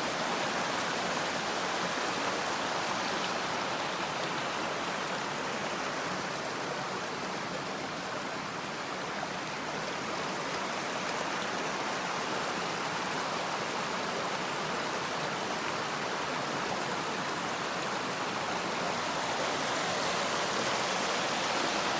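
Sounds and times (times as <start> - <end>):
stream flowing over rocks: 0.0 - 21.9.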